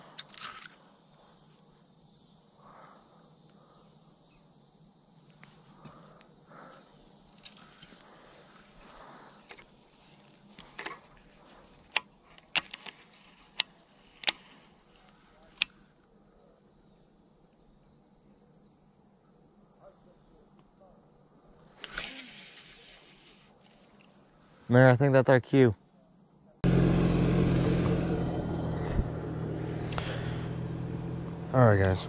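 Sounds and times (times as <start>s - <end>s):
crickets chirping: 0.0s - 26.6s.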